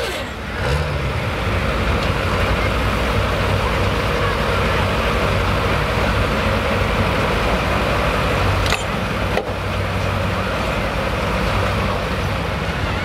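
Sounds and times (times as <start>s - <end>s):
diesel truck engine running hard: 0.0s - 13.0s.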